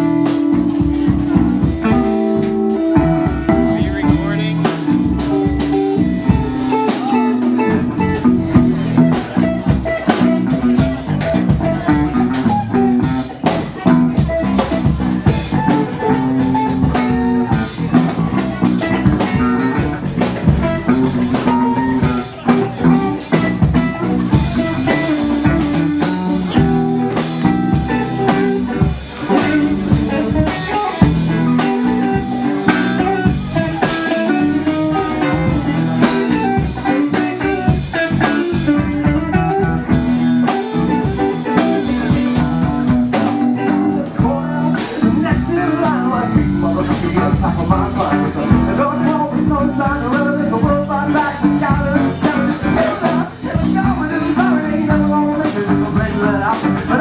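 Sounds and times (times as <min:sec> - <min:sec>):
drum kit: 0:00.0 - 0:57.0
electric guitar: 0:00.0 - 0:57.0.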